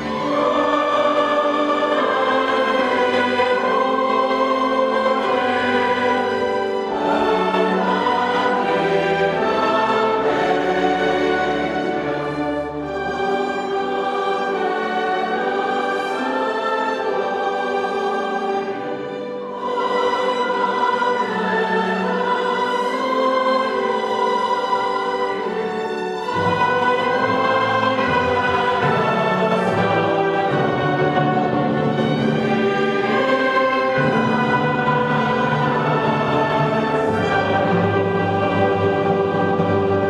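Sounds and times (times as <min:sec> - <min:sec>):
choir singing with orchestra: 0:00.0 - 0:40.0.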